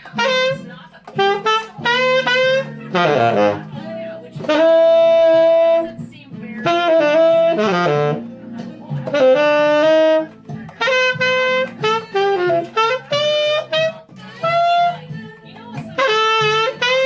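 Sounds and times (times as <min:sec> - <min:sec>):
tenor saxophone playing jazz: 0:00.0 - 0:17.0.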